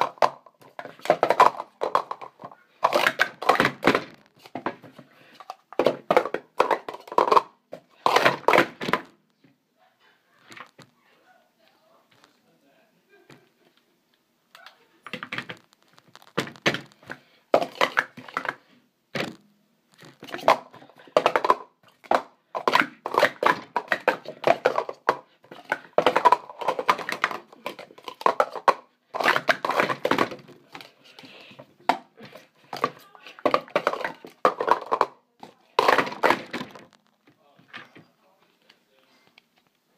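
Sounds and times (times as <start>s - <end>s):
plastic cups clicking and clattering: 0.0s - 9.2s, 14.6s - 38.1s.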